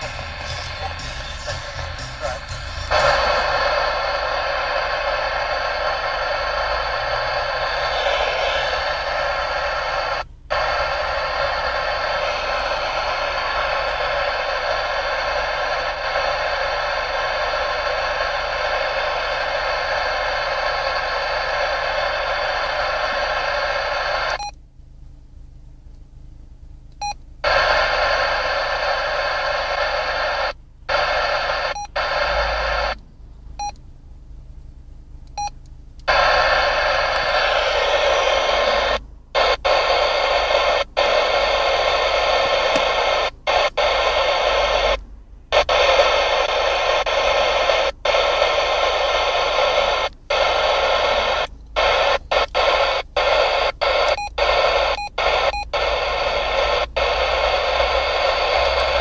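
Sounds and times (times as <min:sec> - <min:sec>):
radio static hissing: 0:00.0 - 0:24.5, 0:27.4 - 0:33.0, 0:36.0 - 0:59.0.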